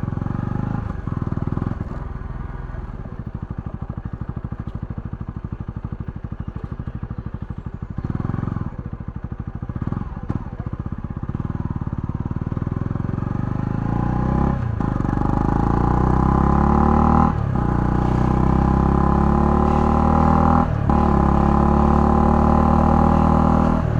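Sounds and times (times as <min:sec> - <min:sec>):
single-cylinder motorcycle engine: 0:00.0 - 0:23.9.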